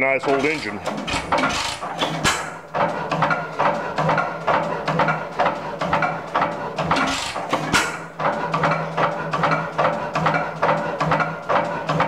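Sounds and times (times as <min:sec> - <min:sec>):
stationary engine clacking: 0:00.0 - 0:12.0.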